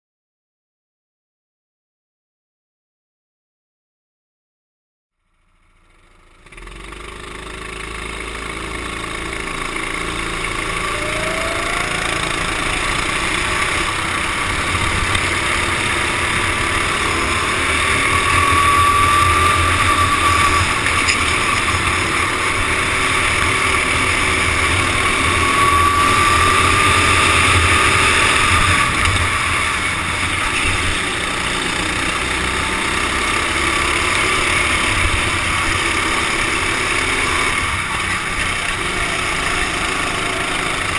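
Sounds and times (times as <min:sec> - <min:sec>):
racing kart engines: 0:05.2 - 0:40.9.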